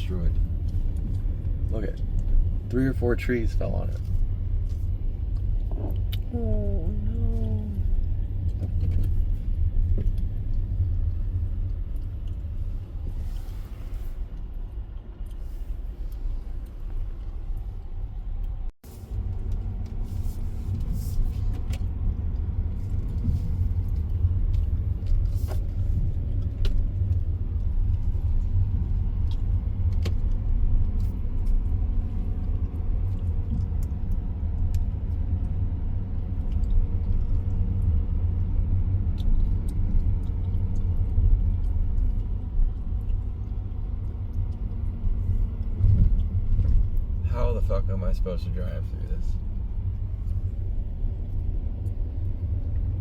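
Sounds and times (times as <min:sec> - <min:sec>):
road and engine rumble: 0:00.0 - 0:53.0.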